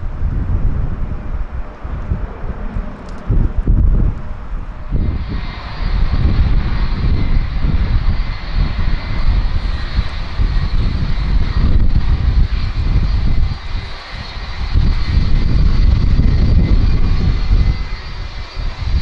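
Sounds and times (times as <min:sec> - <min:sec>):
jet engine low rumble: 0:00.0 - 0:19.0
jet engine whine: 0:00.0 - 0:19.0.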